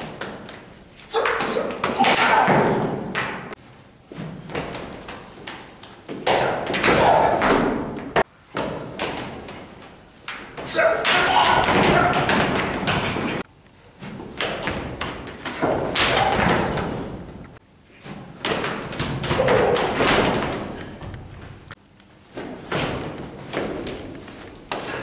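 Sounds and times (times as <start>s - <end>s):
feet stamping: 0.0s - 25.0s
bodies striking and hitting floor: 1.4s - 13.4s, 14.0s - 17.4s, 18.0s - 25.0s.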